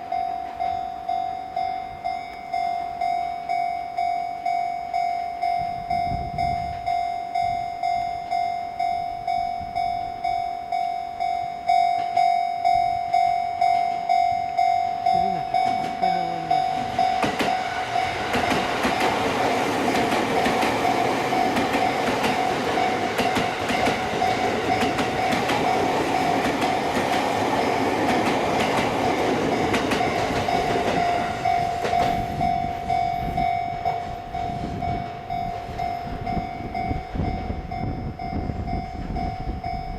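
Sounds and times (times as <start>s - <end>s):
level crossing bell ringing: 0.0s - 39.9s
train wheels on rails: 0.0s - 39.9s.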